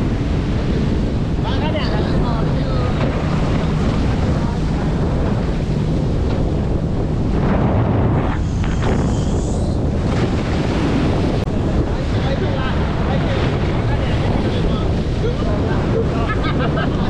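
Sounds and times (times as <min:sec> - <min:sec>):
rush of sea water: 0:00.0 - 0:17.0
wind buffeting microphone: 0:00.0 - 0:17.0.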